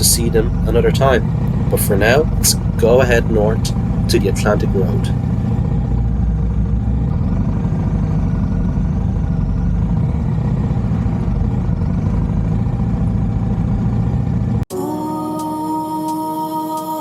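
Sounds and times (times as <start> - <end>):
motorcycle engine running: 0.0 - 14.7.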